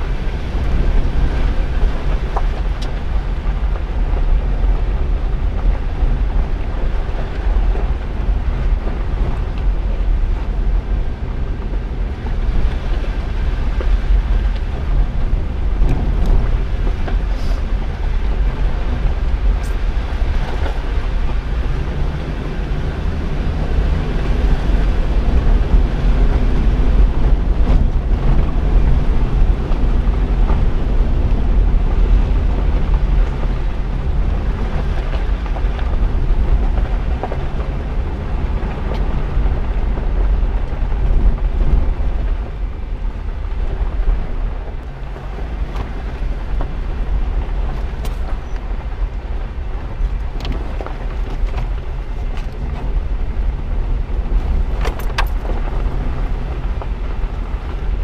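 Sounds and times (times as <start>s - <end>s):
car driving on gravel road: 0.0s - 58.0s
wind on microphone: 0.0s - 58.0s.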